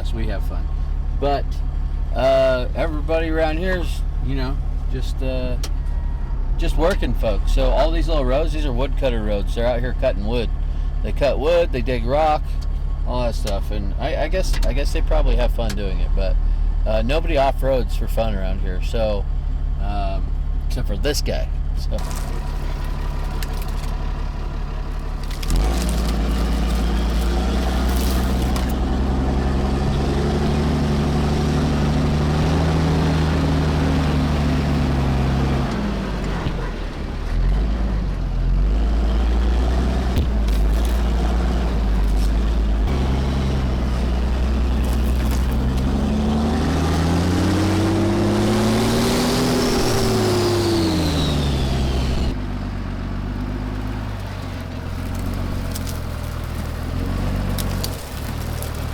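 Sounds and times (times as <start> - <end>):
diesel engine pulling under load: 0.0 - 58.9.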